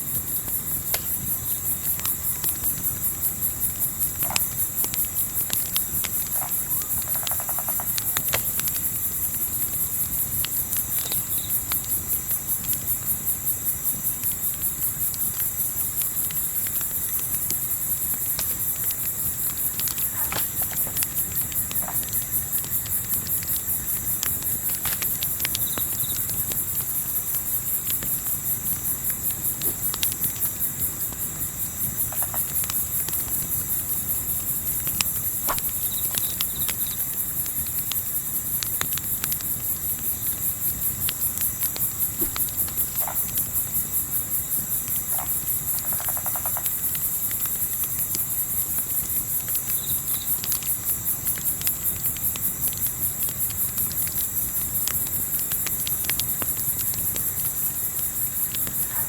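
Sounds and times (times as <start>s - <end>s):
campfire snapping and crackling: 0.0s - 59.0s
crickets chirping: 0.0s - 59.0s.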